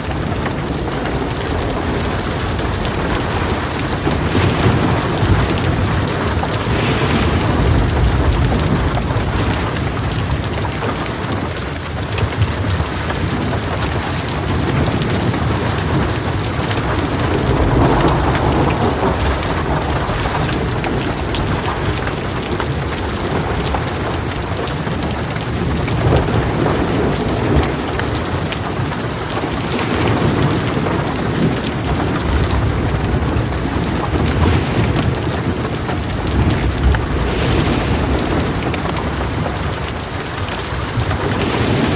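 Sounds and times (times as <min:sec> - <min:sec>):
heavy rain on a metal roof: 0:00.0 - 0:41.9
low rolling thunder: 0:00.0 - 0:41.9.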